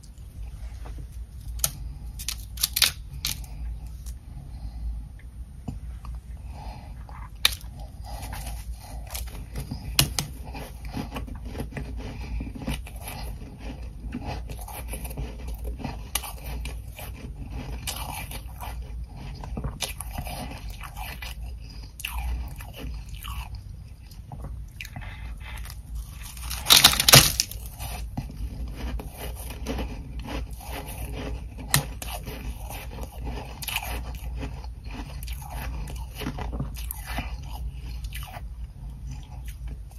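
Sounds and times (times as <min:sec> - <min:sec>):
ice being chewed and crunched: 0:01.4 - 0:04.7, 0:06.5 - 0:39.9.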